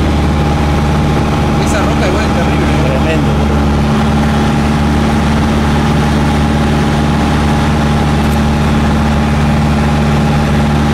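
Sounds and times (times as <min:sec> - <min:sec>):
light aircraft engine drone: 0:00.0 - 0:10.9.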